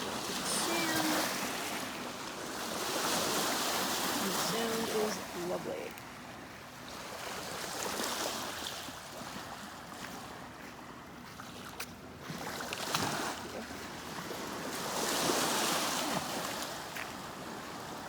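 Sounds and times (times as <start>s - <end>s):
waves washing onto shore: 0.0s - 11.6s, 12.3s - 18.0s.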